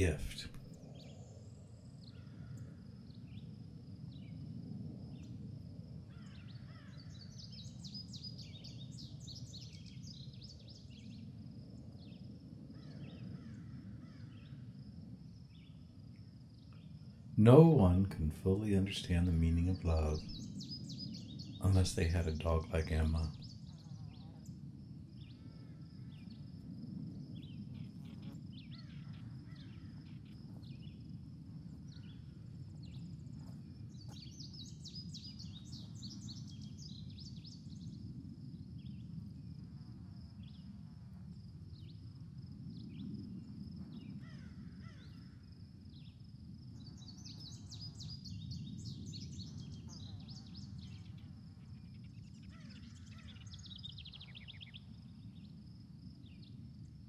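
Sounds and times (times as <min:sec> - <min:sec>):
songbirds chirping: 0:00.0 - 0:05.5, 0:06.1 - 0:26.6, 0:27.2 - 0:38.2, 0:43.8 - 0:57.0.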